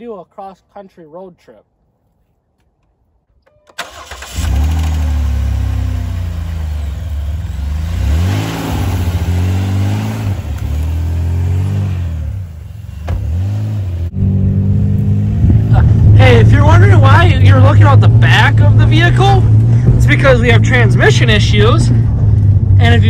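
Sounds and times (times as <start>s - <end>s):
car engine starting and revving: 3.8s - 23.0s.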